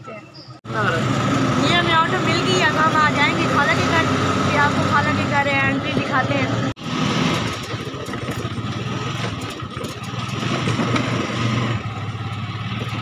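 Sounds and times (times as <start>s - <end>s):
small engine running: 0.6s - 13.0s.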